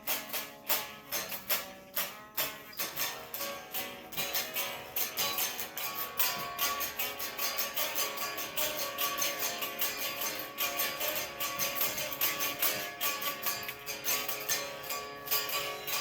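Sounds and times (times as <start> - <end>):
guitar strumming chords: 0.0 - 16.0.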